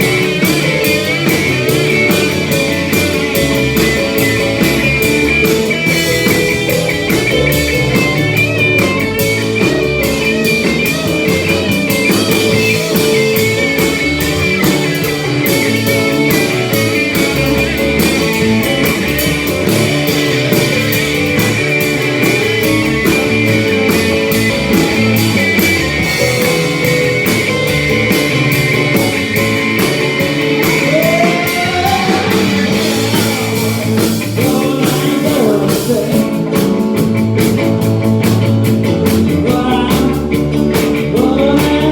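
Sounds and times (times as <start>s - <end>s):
rock music with guitar and drums: 0.0s - 41.9s.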